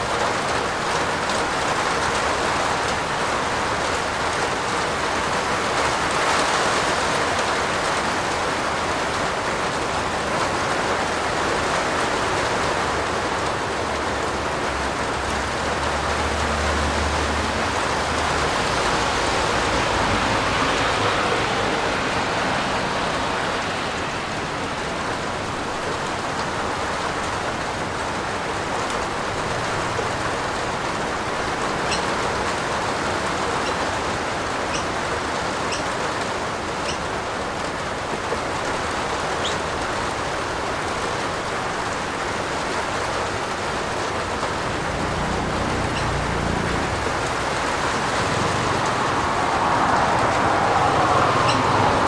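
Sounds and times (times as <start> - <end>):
heavy rain on a roof: 0.0 - 52.0.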